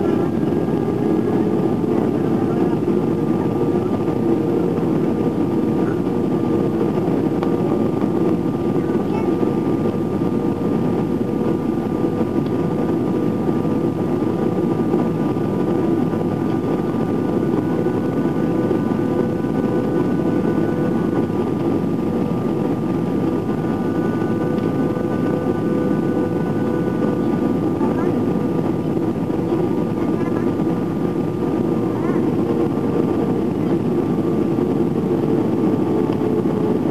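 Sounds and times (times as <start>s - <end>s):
airplane cabin engine drone: 0.0s - 36.9s.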